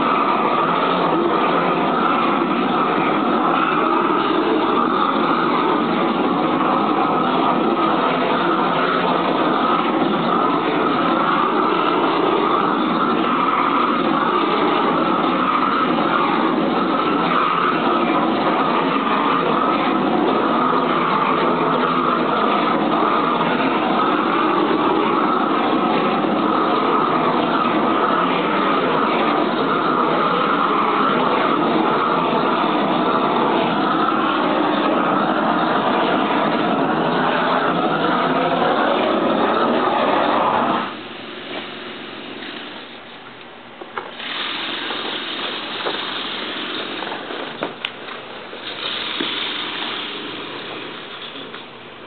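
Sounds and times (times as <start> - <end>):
heater jet-like rushing: 0.0 - 43.3, 44.0 - 52.0.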